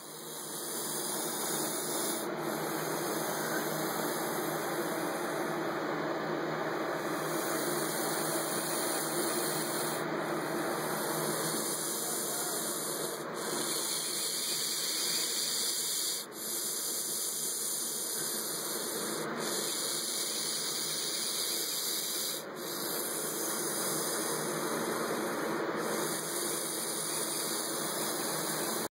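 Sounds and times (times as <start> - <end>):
snake hissing: 0.0 - 28.9.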